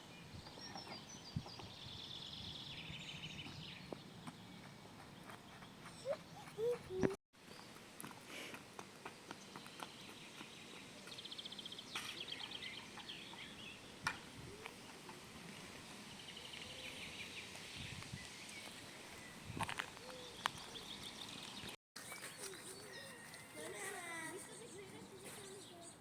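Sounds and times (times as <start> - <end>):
birds calling: 0.1 - 7.8, 9.1 - 26.0.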